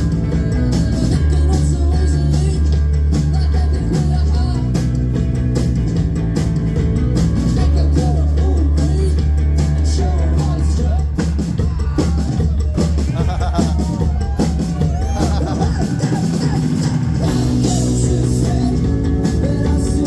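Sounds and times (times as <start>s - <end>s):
person singing: 0.0s - 4.9s, 7.4s - 20.0s
bass guitar: 0.0s - 20.0s
drums: 0.0s - 20.0s
electric guitar: 0.0s - 20.0s.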